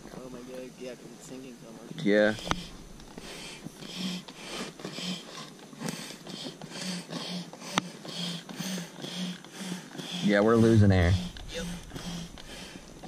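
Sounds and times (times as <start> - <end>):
hand air pump whooshing: 2.3 - 13.0.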